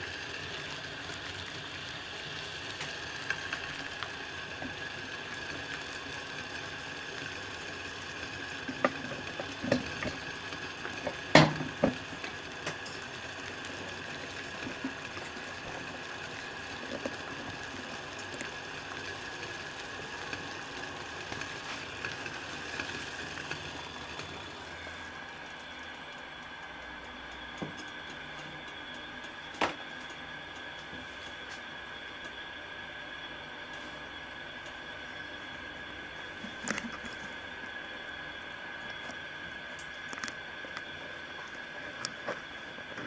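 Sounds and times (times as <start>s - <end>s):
water simmering in a pot: 0.0s - 43.0s.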